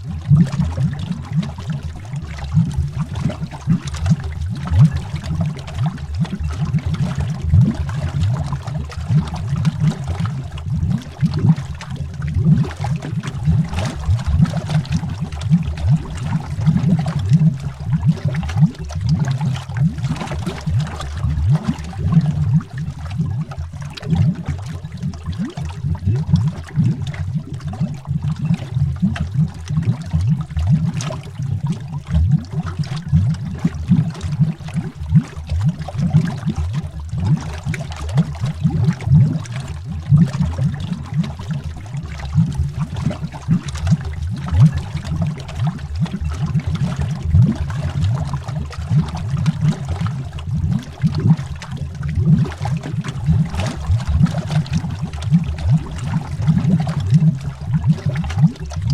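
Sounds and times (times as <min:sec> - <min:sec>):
underwater bubbles popping: 0:00.0 - 0:58.9.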